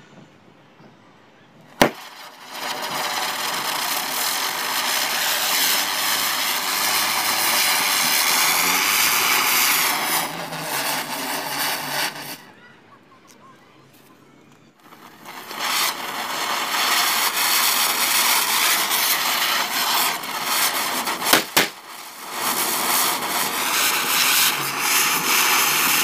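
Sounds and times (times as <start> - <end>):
firework bangs: 1.7 - 12.5, 14.8 - 26.0
firework fountain hissing: 1.7 - 12.6, 14.8 - 26.0
ground spinner firework hissing: 1.7 - 12.6, 14.8 - 26.0.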